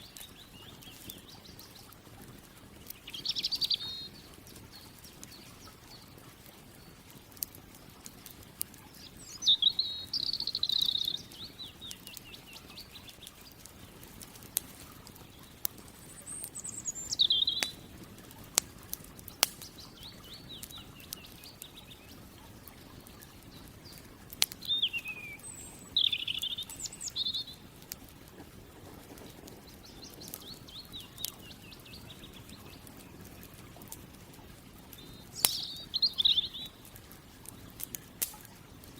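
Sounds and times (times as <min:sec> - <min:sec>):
birds singing: 0:00.0 - 0:38.9
campfire crackling: 0:00.0 - 0:38.9.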